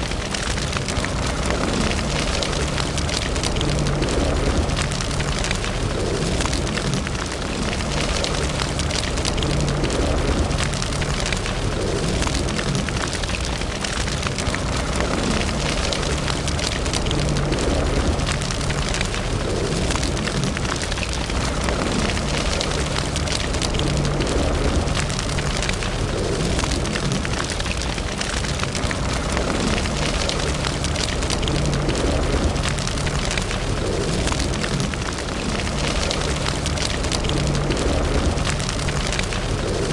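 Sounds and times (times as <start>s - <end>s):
low rumble: 0.0s - 39.9s
wood fire crackling and popping: 0.0s - 39.9s.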